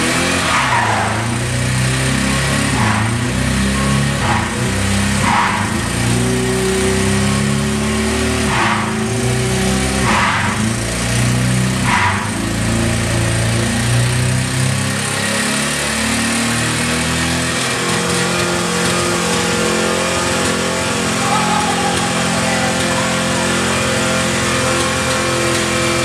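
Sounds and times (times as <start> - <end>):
car engine revved hard: 0.0 - 26.0.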